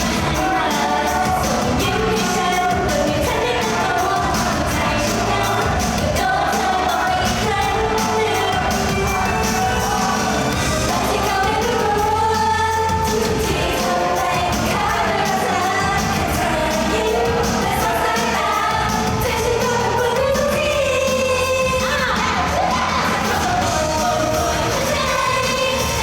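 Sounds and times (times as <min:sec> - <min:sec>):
backing track with steady beat: 0:00.0 - 0:26.0
woman singing pop song: 0:00.0 - 0:26.0.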